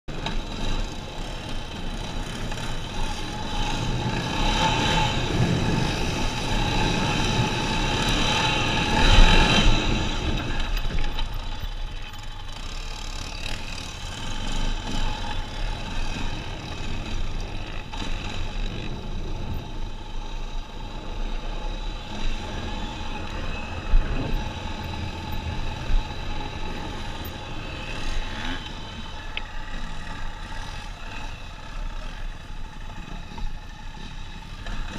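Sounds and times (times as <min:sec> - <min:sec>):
quad engine running: 0:00.1 - 0:34.9.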